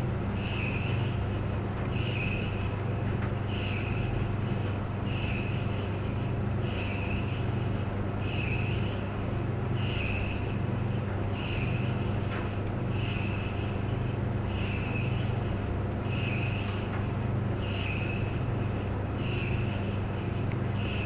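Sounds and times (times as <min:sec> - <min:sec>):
clothes dryer humming: 0:00.0 - 0:21.0
dryer drum squeaking: 0:00.0 - 0:21.0.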